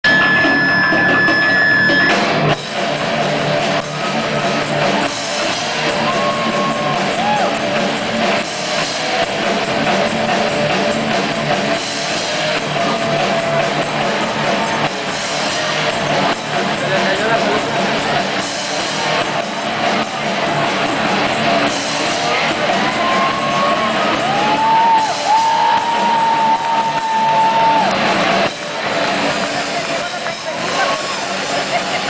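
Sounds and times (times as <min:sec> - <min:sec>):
drum kit: 0:00.0 - 0:32.0
electric guitars: 0:00.0 - 0:32.0.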